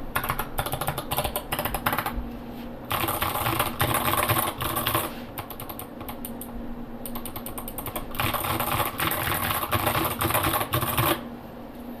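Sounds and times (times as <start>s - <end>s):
mechanical keyboard typing: 0.1s - 2.2s, 2.9s - 6.5s, 7.1s - 11.2s.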